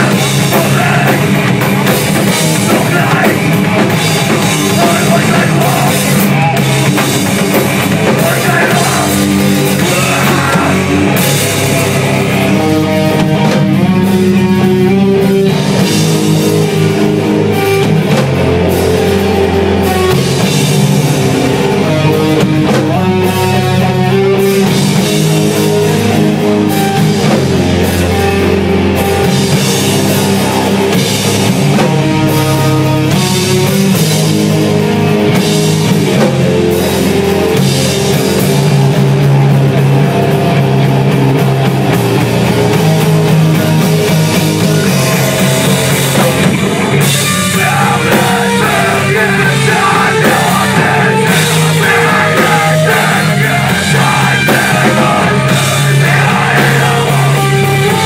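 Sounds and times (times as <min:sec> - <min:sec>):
bass guitar: 0:00.0 - 0:58.0
distorted electric guitar: 0:00.0 - 0:58.0
drum kit pounding: 0:00.0 - 0:58.0.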